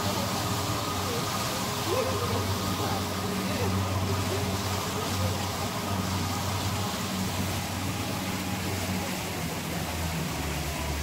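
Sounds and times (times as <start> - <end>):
boat engine humming: 0.0 - 11.0
water rushing along a hull: 0.0 - 11.0.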